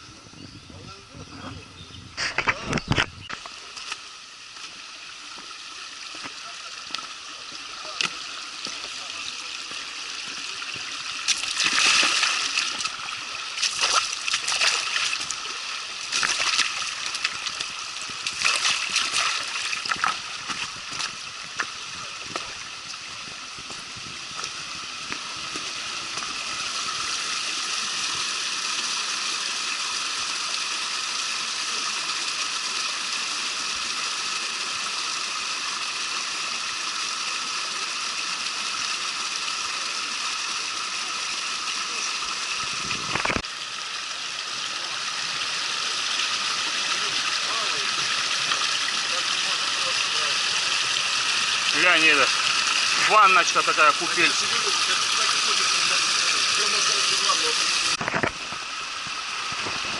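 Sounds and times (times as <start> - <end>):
stream water splashing and rushing: 2.2 - 59.9.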